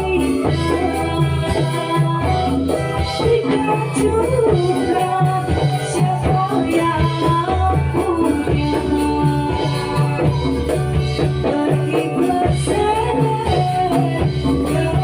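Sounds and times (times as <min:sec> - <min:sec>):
jingling shaken percussion: 0:00.0 - 0:15.0
steady drum beat: 0:00.0 - 0:15.0.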